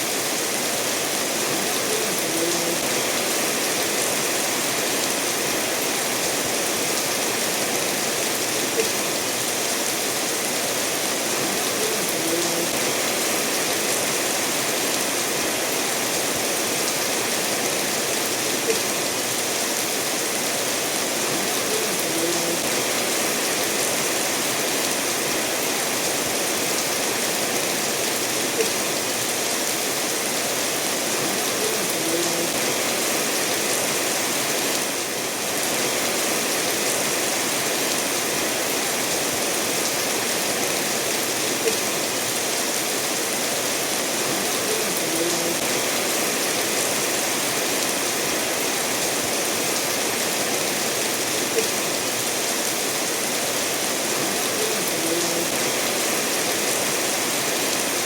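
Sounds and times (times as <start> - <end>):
steady rainfall: 0.0 - 58.0
stream running over stones: 0.0 - 58.0.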